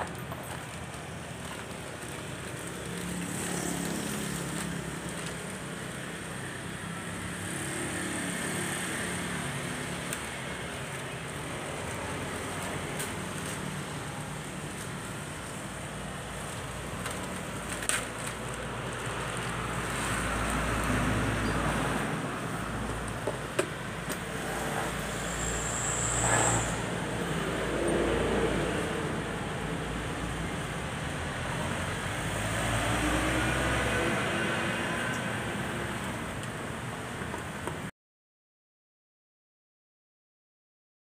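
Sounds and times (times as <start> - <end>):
motor traffic passing: 0.0 - 37.9.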